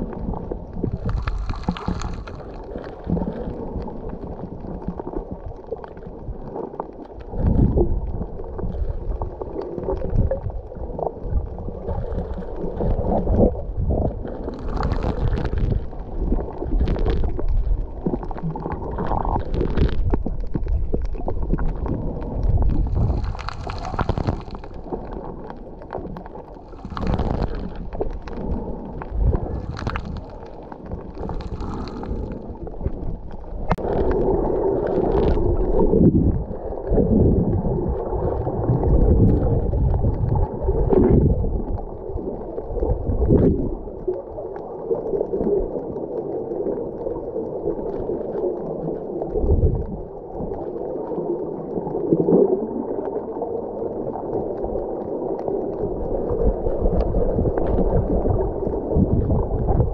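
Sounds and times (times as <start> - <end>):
low underwater rumbles: 0.0 - 59.9
underwater gurgling and swishing: 0.0 - 59.9.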